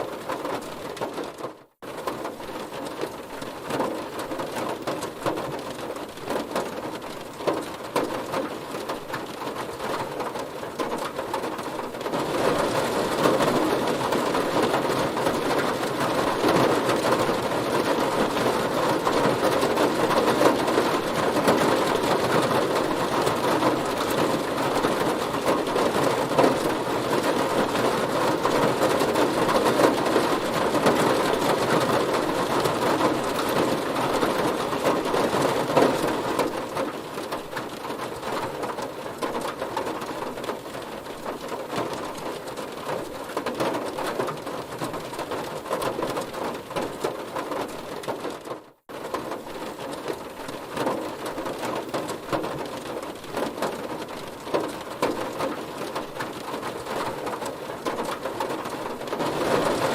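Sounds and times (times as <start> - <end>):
heavy rain on a car: 0.0 - 59.9.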